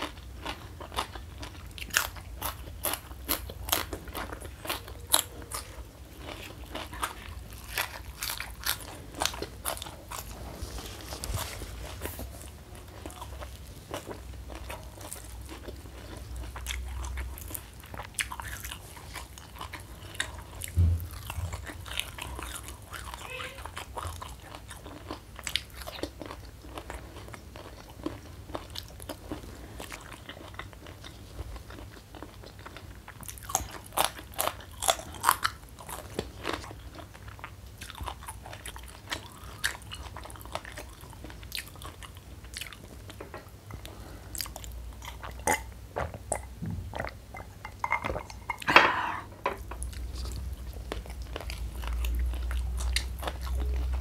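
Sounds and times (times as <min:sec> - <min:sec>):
chewing and crunching fried food: 0:00.0 - 0:48.7, 0:49.6 - 0:54.0.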